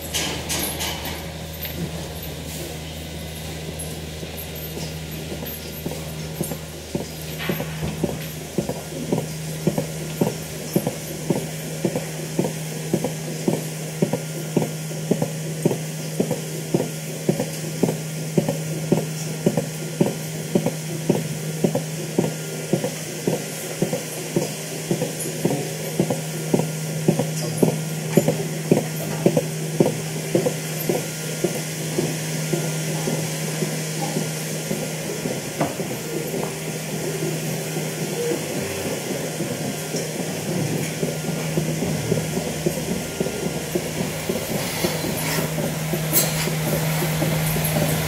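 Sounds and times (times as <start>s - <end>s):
milking machine humming and pulsing: 0.0s - 48.0s.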